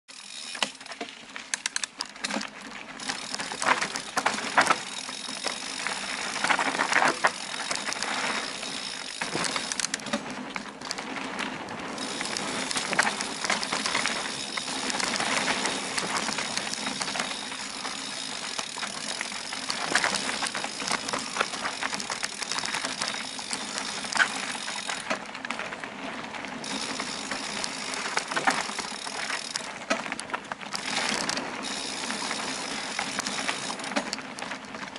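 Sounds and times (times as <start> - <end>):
bike rattling and clicking: 0.1 - 34.9
bike tyres rolling on dirt: 0.1 - 34.9.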